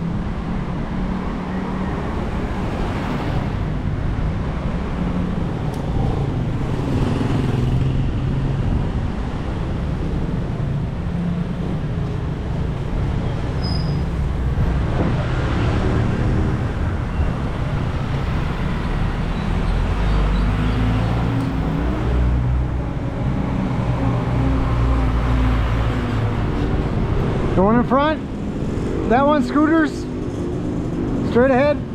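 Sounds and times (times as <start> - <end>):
motor vehicle engines running: 0.0 - 31.9
road noise: 0.0 - 31.9.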